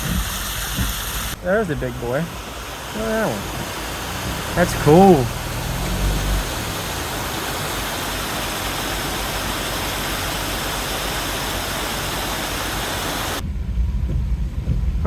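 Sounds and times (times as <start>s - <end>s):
low car rumble: 0.0s - 15.0s
rain and tyres on wet road: 0.0s - 15.0s.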